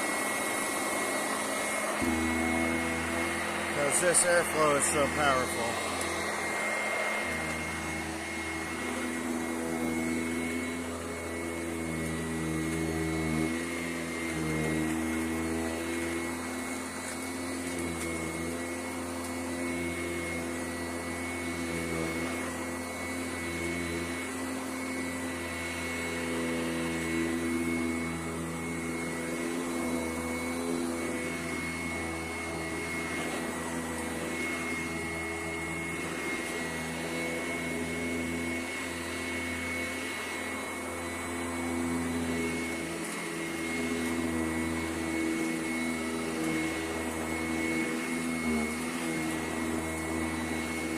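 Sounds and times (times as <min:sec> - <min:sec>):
upright vacuum cleaner running: 0:00.0 - 0:50.9.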